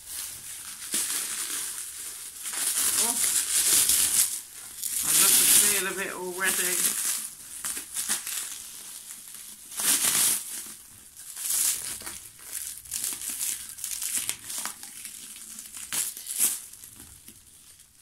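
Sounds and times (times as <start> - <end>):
plastic film crinkling: 0.0 - 18.0.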